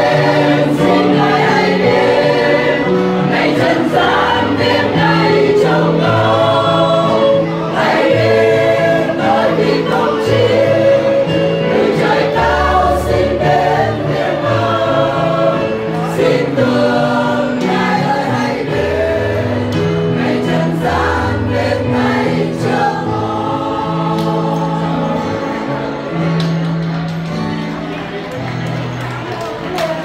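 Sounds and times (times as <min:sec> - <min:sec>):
mixed choir singing a hymn: 0:00.0 - 0:26.6.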